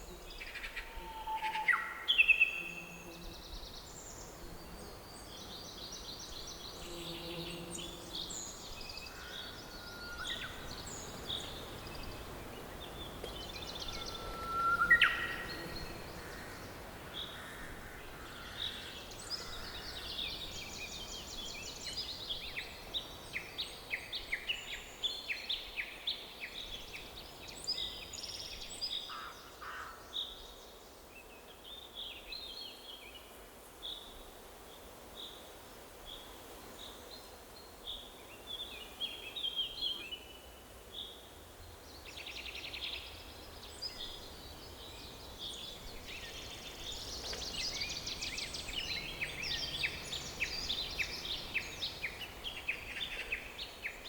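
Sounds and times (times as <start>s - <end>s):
songbirds chirping and trilling: 0.0s - 33.2s, 36.9s - 54.0s
outdoor ambience hiss: 0.0s - 54.0s.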